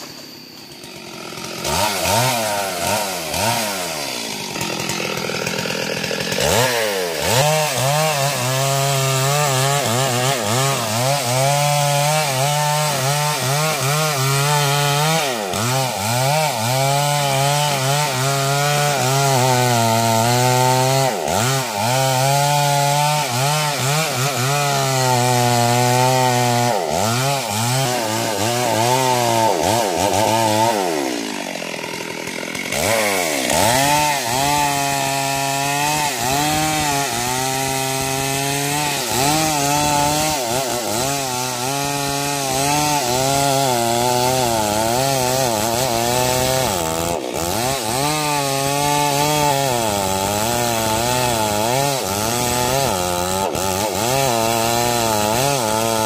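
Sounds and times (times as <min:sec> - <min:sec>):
chainsaw cutting tree trunk: 0:00.0 - 0:56.0.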